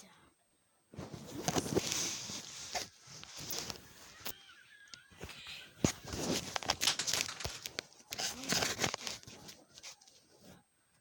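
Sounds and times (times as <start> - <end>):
rustling and crinkling: 0.9 - 11.0.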